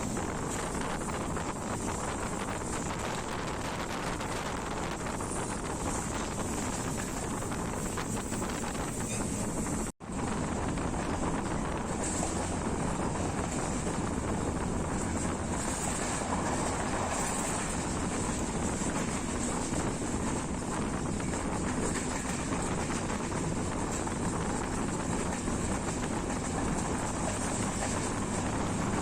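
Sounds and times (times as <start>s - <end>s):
train rushing at speed: 0.0s - 29.0s
wind buffeting microphone: 0.0s - 29.0s.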